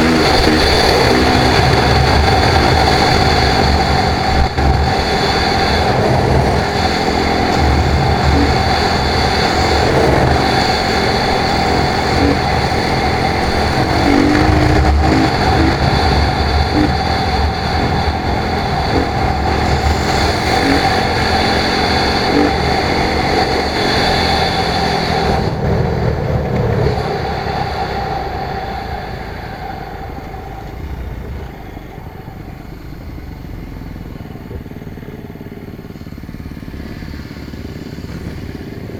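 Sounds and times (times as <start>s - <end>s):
off-road motorcycle engine: 0.0s - 38.9s.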